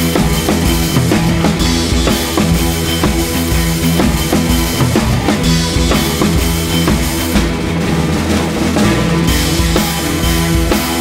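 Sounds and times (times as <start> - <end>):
drum-driven music with bass: 0.0 - 11.0.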